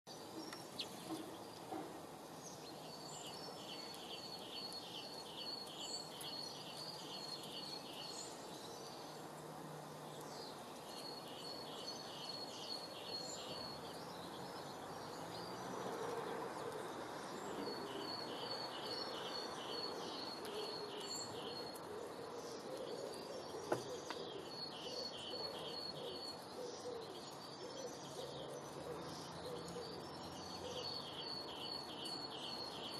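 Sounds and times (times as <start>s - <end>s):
songbird singing repeated notes: 0.1s - 9.4s, 10.0s - 32.9s
outdoor background noise: 0.1s - 32.9s.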